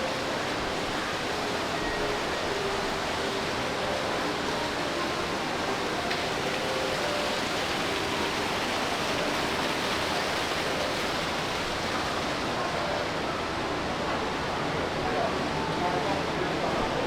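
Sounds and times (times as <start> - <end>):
steady rushing hiss: 0.0 - 15.6.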